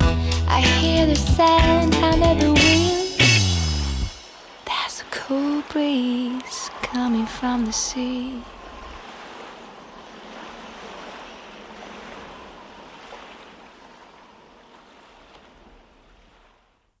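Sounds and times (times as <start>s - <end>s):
ocean waves washing: 0.5s - 16.8s.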